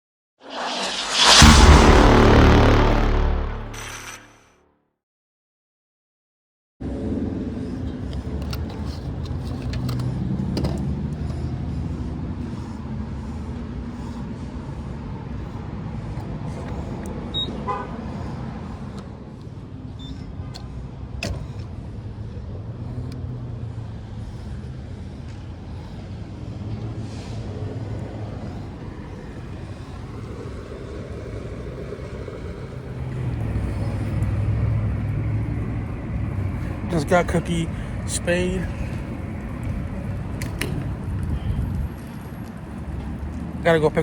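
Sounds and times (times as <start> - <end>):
car engine and road rumble: 6.8 - 44.0.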